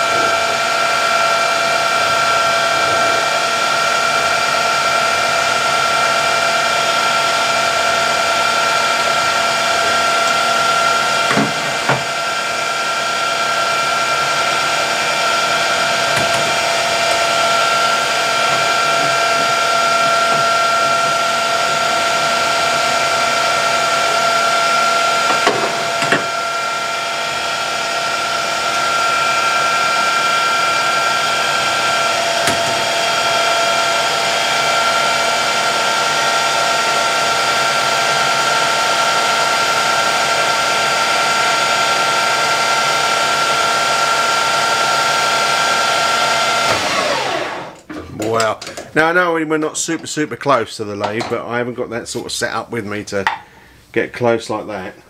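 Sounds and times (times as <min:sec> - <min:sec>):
metal lathe whining: 0:00.0 - 0:48.0.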